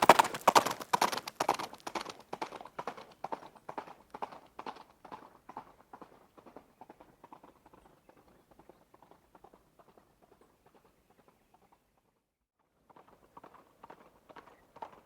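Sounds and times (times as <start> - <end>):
hoofbeats of running horse: 0.0 - 12.1, 12.8 - 15.0.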